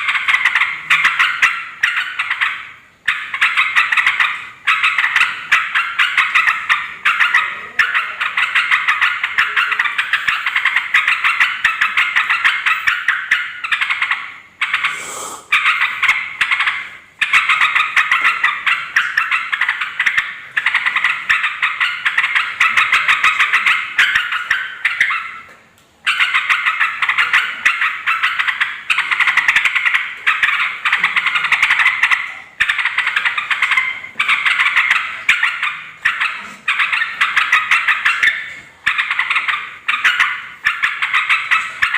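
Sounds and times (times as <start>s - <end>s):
birds chattering: 0.0s - 41.9s.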